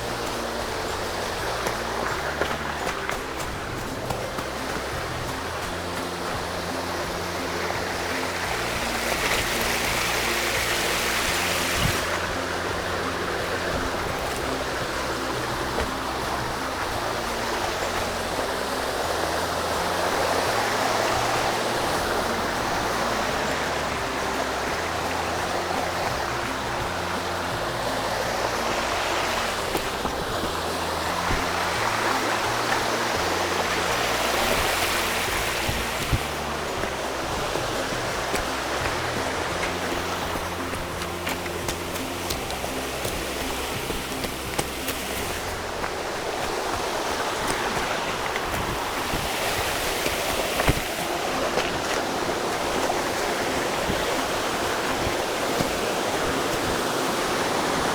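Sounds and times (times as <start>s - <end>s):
soft music with low held notes: 0.0s - 57.9s
stream rushing over rocks: 0.0s - 57.9s.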